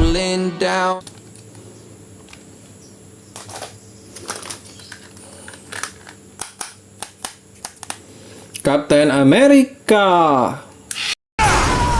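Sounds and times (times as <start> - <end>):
steady low hum: 1.0 - 11.0.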